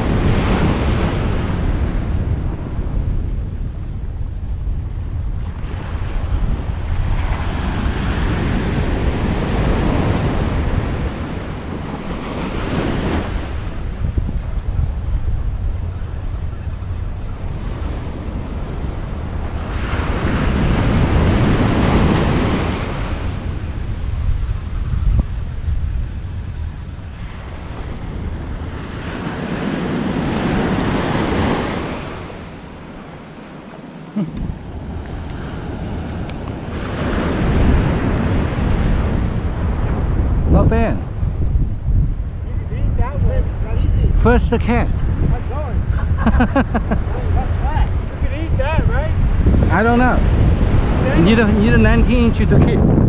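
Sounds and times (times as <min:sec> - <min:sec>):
small waves breaking on sand: 0:00.0 - 0:03.9, 0:04.9 - 0:14.5, 0:17.0 - 0:41.6, 0:45.0 - 0:52.3
wind buffeting microphone: 0:00.0 - 0:53.0.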